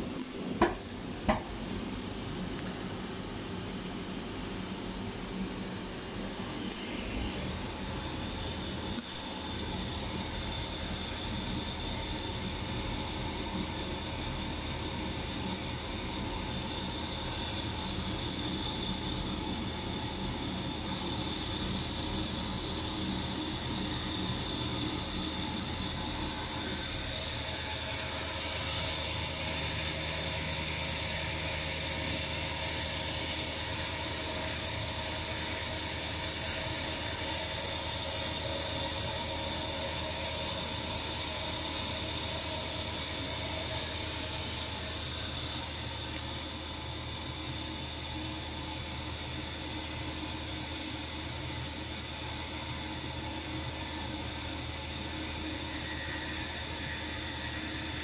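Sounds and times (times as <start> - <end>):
milling machine whine: 0.0 - 58.0.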